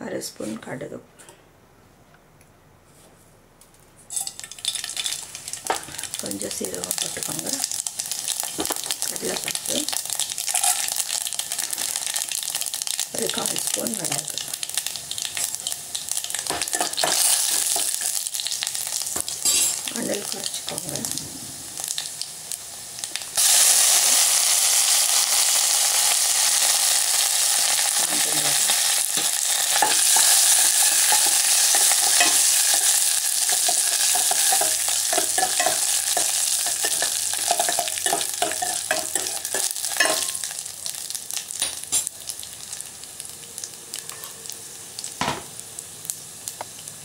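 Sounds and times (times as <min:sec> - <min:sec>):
hot oil sizzling and crackling: 0:04.1 - 0:47.0.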